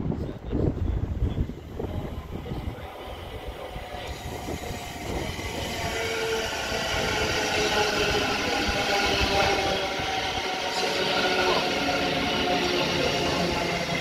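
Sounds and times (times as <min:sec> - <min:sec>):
electric train whining: 0:00.6 - 0:14.0.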